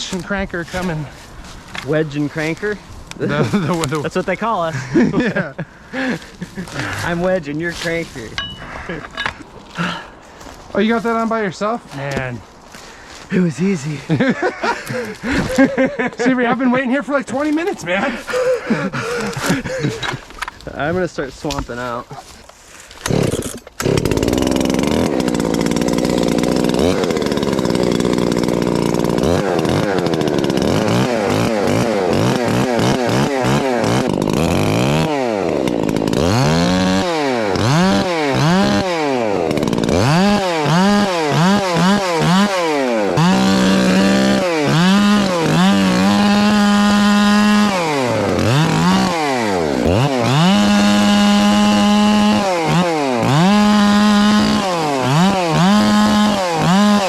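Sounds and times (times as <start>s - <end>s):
chainsaw revving and idling: 0.0s - 12.2s, 13.1s - 20.7s, 21.7s - 57.0s.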